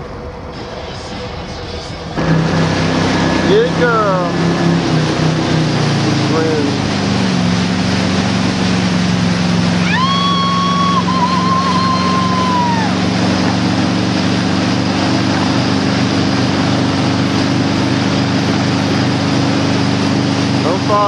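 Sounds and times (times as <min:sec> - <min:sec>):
boat engine running: 0:00.0 - 0:21.0
rush of wind and water: 0:02.2 - 0:21.0.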